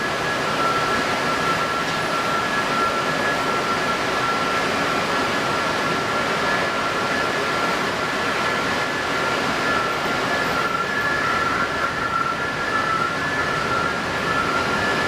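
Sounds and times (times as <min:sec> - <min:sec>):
high whine: 0:00.0 - 0:15.0.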